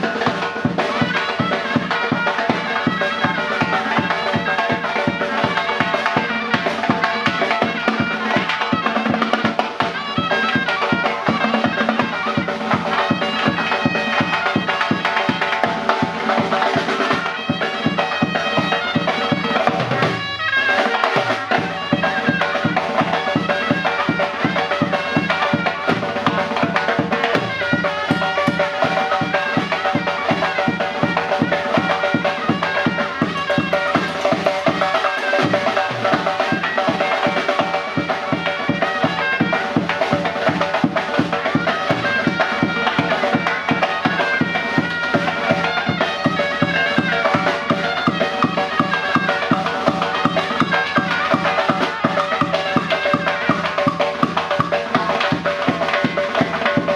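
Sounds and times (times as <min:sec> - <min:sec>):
fast steady drum beat: 0:00.0 - 0:56.9
reedy shawm melody: 0:00.0 - 0:56.9.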